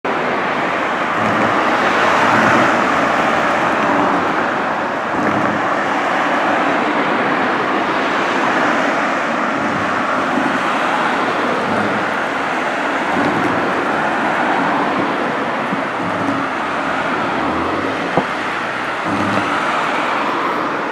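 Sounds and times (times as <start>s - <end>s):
cars passing on street: 0.0s - 20.9s.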